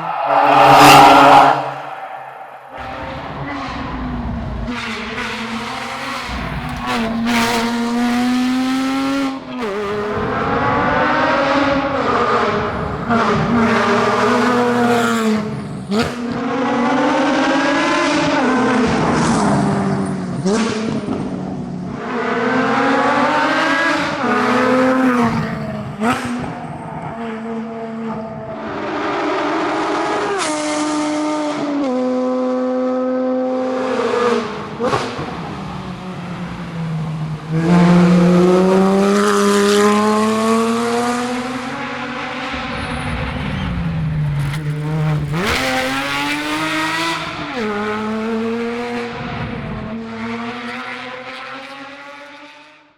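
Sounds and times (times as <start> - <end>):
car engine accelerating hard: 0.0 - 52.8.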